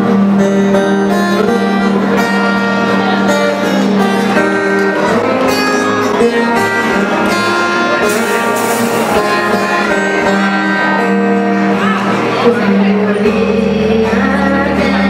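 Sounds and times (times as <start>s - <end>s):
acoustic guitars playing: 0.0s - 15.0s
bass guitar: 0.0s - 15.0s.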